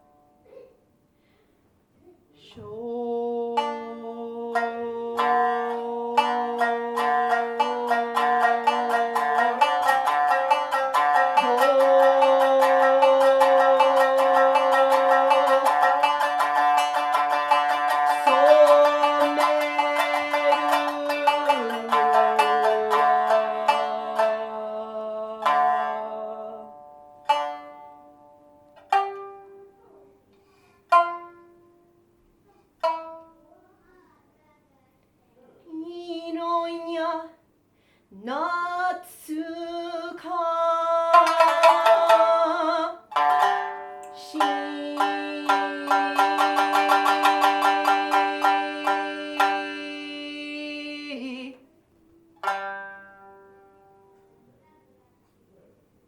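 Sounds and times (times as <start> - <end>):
plucked string instrument: 2.5 - 33.6, 38.4 - 54.5.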